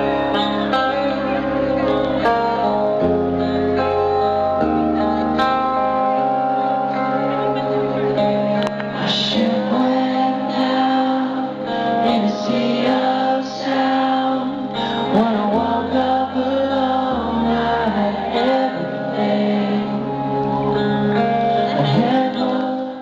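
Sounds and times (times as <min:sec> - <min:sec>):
live band playing: 0:00.0 - 0:22.7
guitar: 0:00.0 - 0:23.0
person singing: 0:00.0 - 0:23.0.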